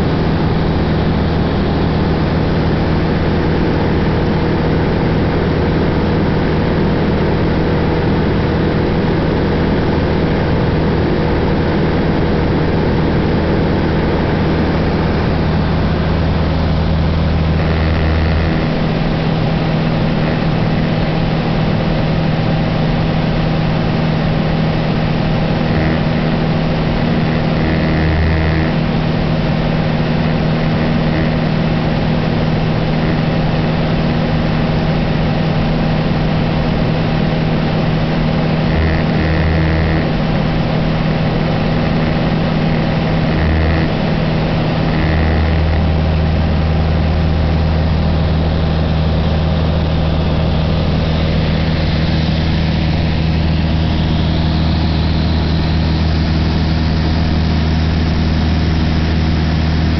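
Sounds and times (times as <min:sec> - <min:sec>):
aircraft engine and propeller droning: 0:00.0 - 0:59.9
low hum: 0:00.0 - 0:59.9.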